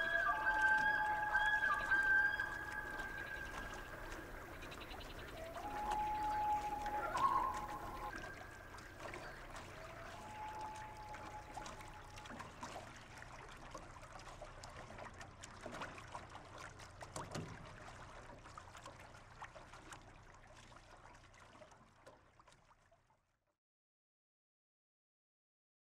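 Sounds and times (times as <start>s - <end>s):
faint trickling water: 0.0s - 23.5s.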